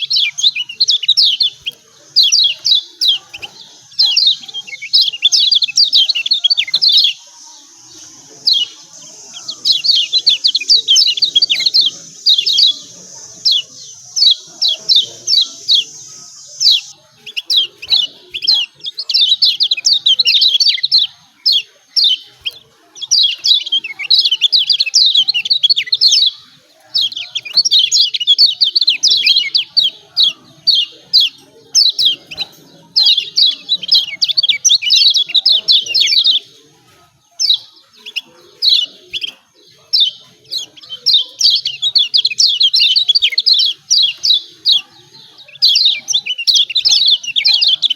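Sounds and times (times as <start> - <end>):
bird chirp calls: 0.0 - 47.9.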